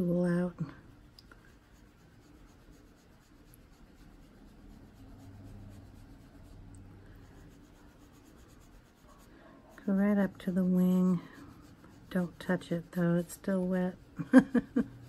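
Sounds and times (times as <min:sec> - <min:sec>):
applicator rubbing on paper: 0:01.4 - 0:15.0.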